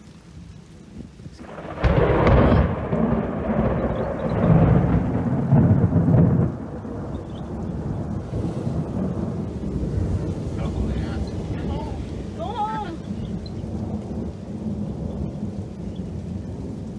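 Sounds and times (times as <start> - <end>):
steady rain: 0.0 - 16.9
thunder rumbling: 0.0 - 16.9.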